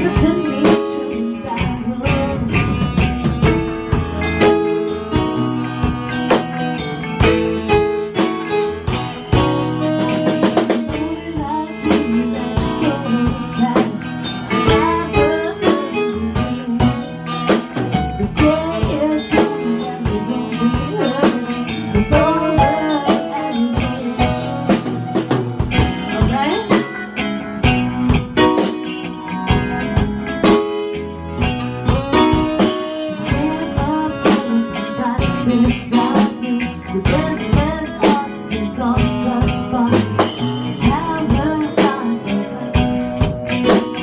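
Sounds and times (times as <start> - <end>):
bass guitar: 0.0 - 44.0
drum kit: 0.0 - 44.0
electric guitar: 0.0 - 44.0.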